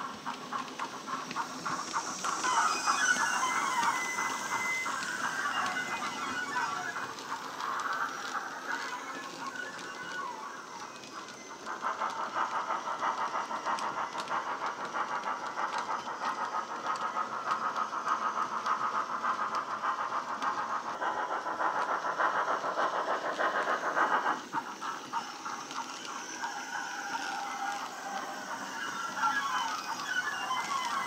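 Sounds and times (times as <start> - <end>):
steam locomotive chuffs from small speaker: 0.0 - 31.0.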